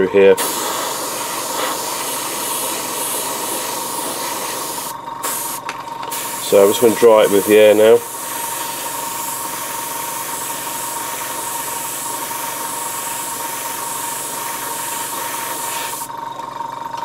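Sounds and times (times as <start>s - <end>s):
steady whine: 0.0s - 17.0s
airbrush hissing: 0.3s - 16.1s.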